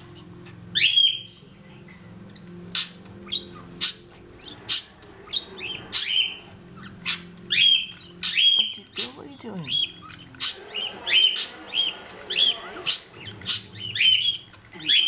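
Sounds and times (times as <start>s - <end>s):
budgerigar calling: 0.0s - 1.3s, 2.3s - 15.0s.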